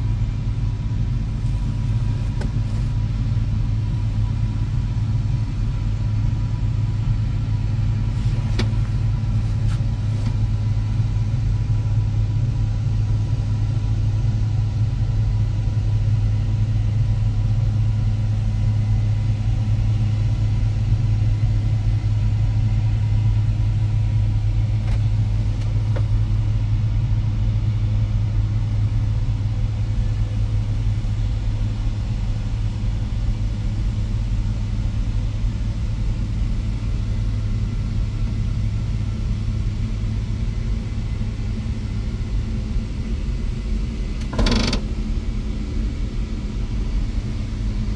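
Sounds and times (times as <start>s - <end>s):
combine harvester rumbling: 0.0s - 47.9s.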